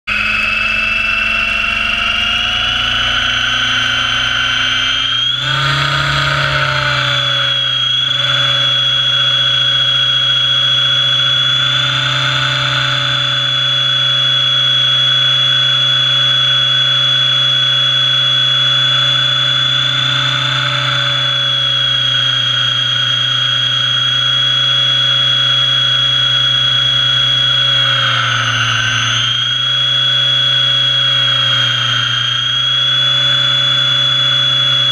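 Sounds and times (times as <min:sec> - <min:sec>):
model helicopter motor whining: 0:00.1 - 0:34.9.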